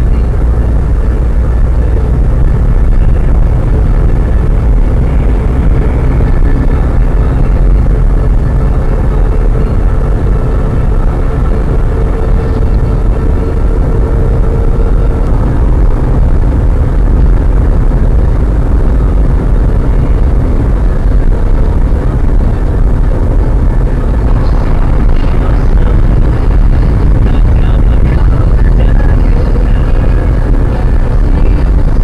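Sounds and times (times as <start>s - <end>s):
car road and wind rumble: 0.0s - 32.0s.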